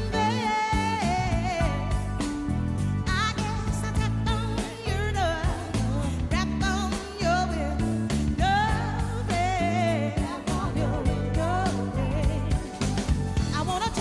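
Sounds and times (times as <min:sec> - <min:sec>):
woman singing with vibrato: 0:00.0 - 0:02.3, 0:03.0 - 0:14.0
soul band playing: 0:00.0 - 0:14.0.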